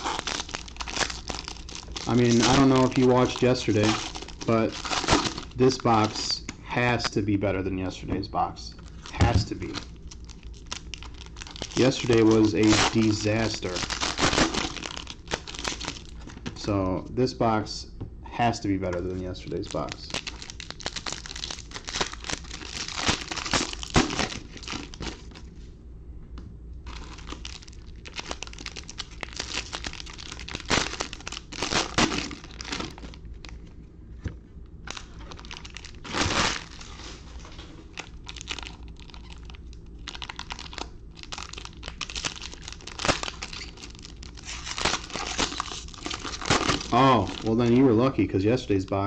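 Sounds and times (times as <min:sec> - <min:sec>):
plastic wrapping crinkling: 0:00.0 - 0:06.4, 0:08.7 - 0:16.5, 0:19.4 - 0:25.6, 0:26.9 - 0:33.7, 0:34.8 - 0:48.1.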